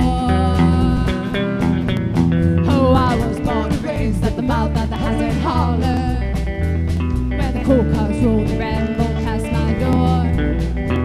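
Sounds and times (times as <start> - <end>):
lead guitar bending: 0.0 - 11.0
live band music: 0.0 - 11.0
steady drum beat: 0.0 - 11.0.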